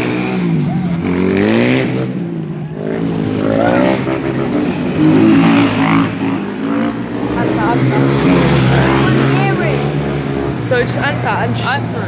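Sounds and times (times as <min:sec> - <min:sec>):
motorbike engines revving: 0:00.0 - 0:12.0.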